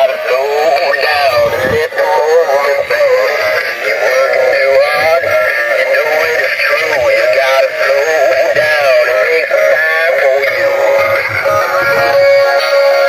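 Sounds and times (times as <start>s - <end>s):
toy speaker song with music: 0.0s - 13.0s.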